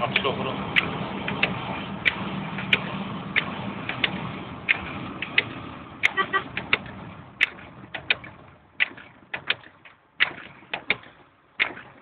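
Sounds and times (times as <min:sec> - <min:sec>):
clicks and knocks in car cabin: 0:01.3 - 0:12.0.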